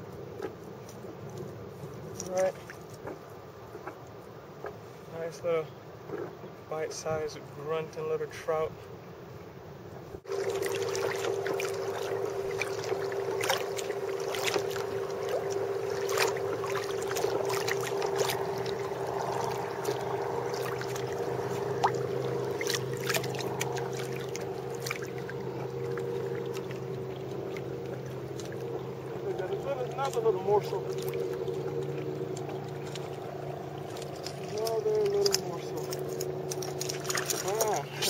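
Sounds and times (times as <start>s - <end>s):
water splashing against hull: 0.0s - 5.1s, 9.9s - 38.0s
steady low hum: 0.0s - 38.0s.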